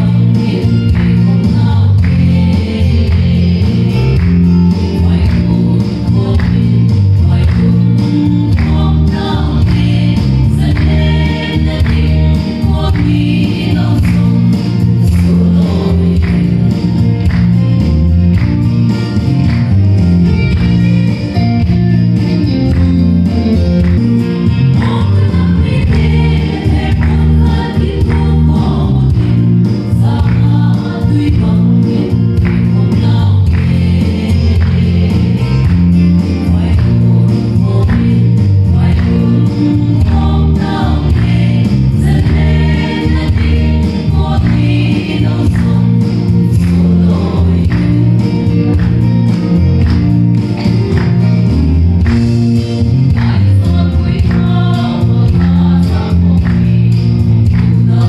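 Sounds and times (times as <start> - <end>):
band with heavy bass: 0.0 - 58.0
group singing gospel: 0.0 - 58.0.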